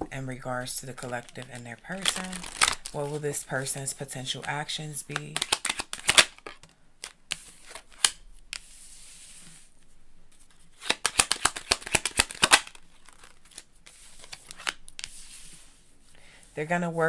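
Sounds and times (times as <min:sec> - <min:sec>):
cards shuffling on cloth: 0:00.8 - 0:16.1.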